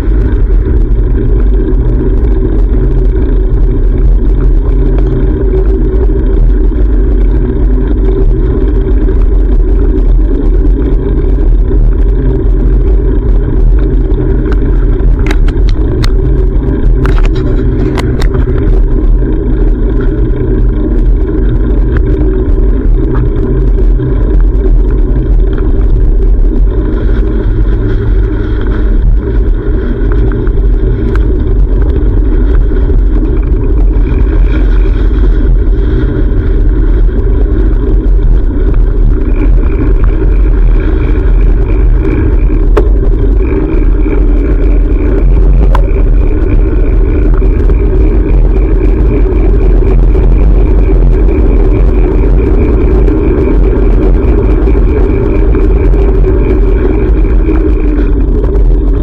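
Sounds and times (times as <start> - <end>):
road noise: 0.0 - 59.0
wind rumble on microphone: 0.0 - 59.0.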